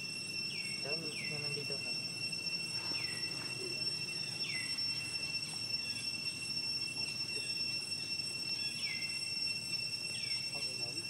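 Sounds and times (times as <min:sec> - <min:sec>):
chirps gliding downward: 0:00.0 - 0:11.0
insects droning: 0:00.0 - 0:11.0.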